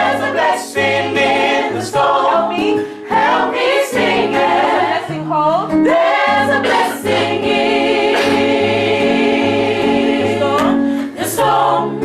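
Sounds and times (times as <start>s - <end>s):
gospel choir singing: 0.0s - 12.0s.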